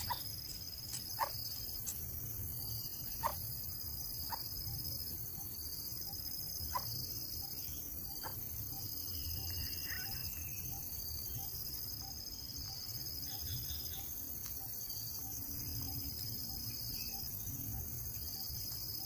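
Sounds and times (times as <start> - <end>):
faint chirps: 0.0 - 19.0
insect trilling: 0.0 - 19.0.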